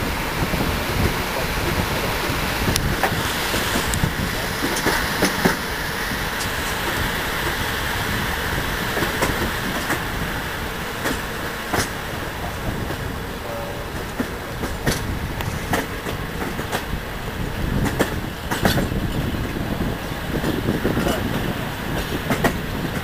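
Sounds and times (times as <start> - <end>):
train carriage rumbling: 0.0 - 23.0
wheels clacking over rails: 0.0 - 23.0.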